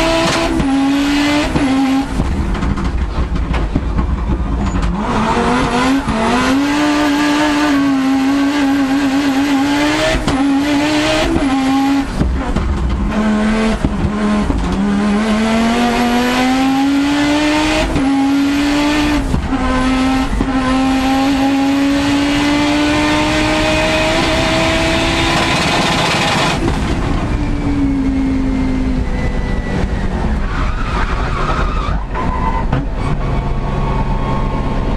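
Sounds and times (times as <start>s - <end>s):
rally car engine accelerating: 0.0s - 34.9s.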